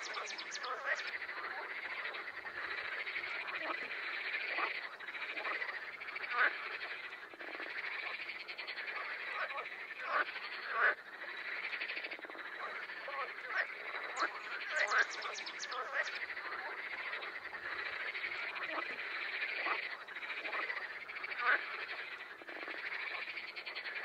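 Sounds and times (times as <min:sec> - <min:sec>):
frogs chorusing: 0:00.0 - 0:24.0
single frog croaks: 0:00.0 - 0:24.0.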